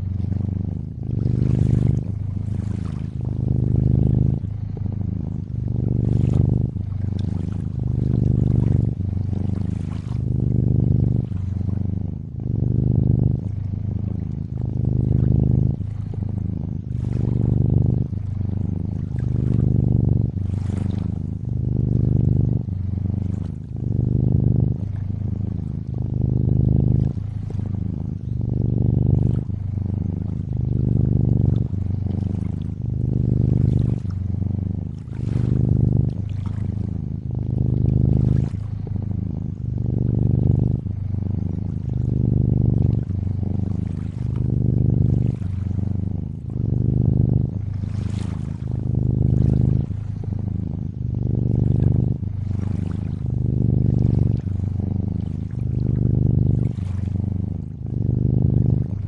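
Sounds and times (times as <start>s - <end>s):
water trickling and lapping: 0.0s - 12.4s, 13.4s - 38.9s, 41.6s - 57.8s
cat purring: 0.0s - 59.0s.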